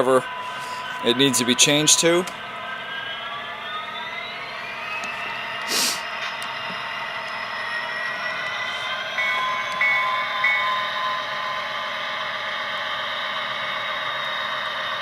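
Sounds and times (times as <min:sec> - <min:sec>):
model locomotive engine sound: 0:00.0 - 0:15.0.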